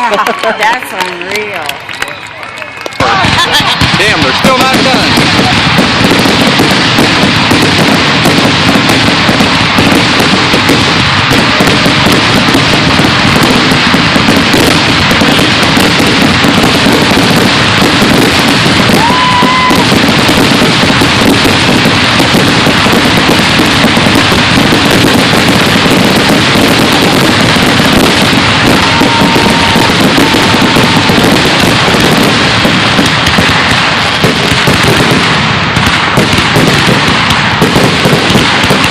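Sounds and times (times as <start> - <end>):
fireworks bursts and crackle: 0.0 - 38.9
firework whistle: 1.9 - 35.0.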